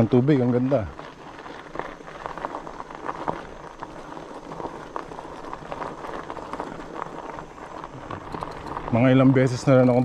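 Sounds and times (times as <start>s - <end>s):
bike rattling: 0.0s - 10.0s
bike tyres crunching on gravel: 0.0s - 10.0s.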